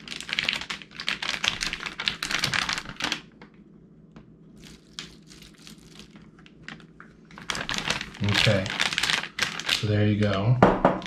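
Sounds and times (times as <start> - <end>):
plastic bag crinkling: 0.0 - 3.6, 4.5 - 10.5.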